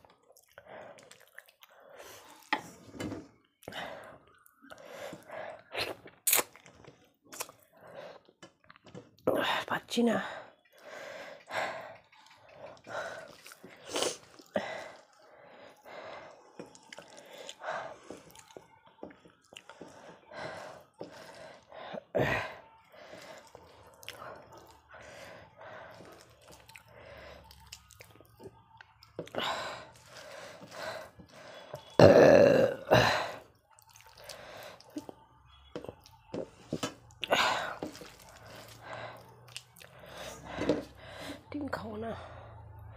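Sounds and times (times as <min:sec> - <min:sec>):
wet chewing: 0:00.0 - 0:02.6, 0:03.5 - 0:09.2, 0:10.6 - 0:32.0, 0:33.4 - 0:41.2.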